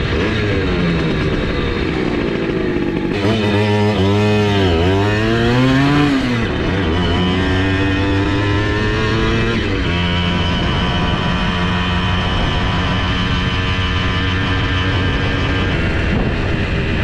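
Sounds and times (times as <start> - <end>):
moped engine revving: 0.0 - 17.0.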